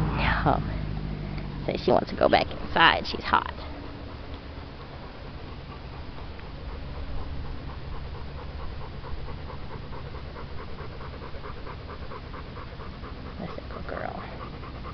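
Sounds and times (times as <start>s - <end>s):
dog panting rapidly: 1.6s - 14.9s.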